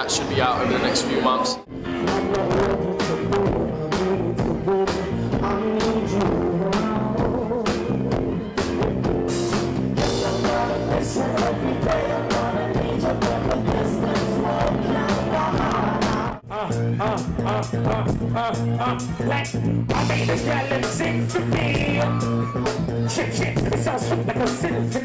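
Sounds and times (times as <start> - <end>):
man singing into a microphone: 1.9 - 8.2, 10.0 - 25.0
drums with a steady beat: 2.0 - 16.4, 17.2 - 25.0.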